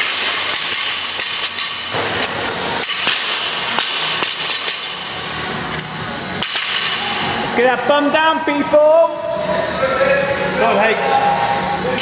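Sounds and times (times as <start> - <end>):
room hubbub: 0.0 - 12.0.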